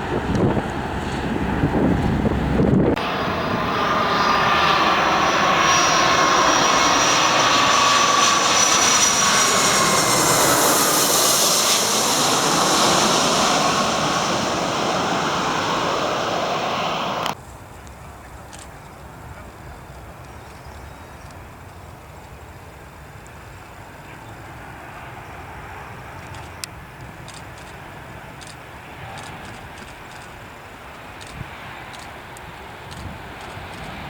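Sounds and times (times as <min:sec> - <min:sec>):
jet engines passing: 0:00.0 - 0:20.3, 0:21.2 - 0:34.0.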